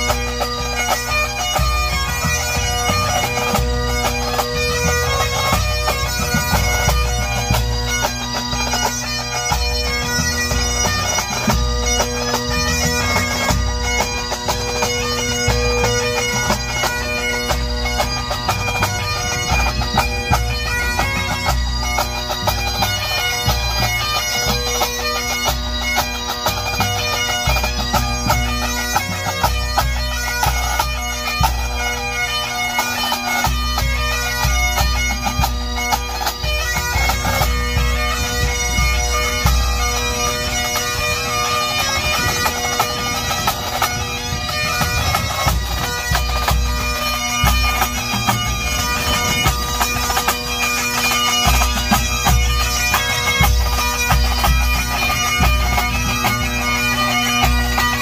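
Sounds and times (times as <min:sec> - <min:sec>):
bagpipes playing a tune: 0:00.0 - 0:58.0.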